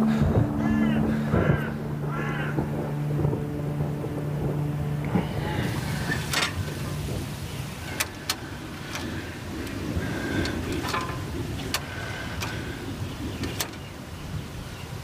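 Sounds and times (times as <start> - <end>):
low steady rumble: 0.0 - 14.5.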